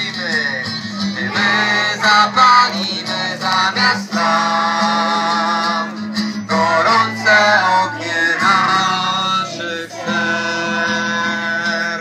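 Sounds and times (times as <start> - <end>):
children and adults singing: 1.0 - 12.0.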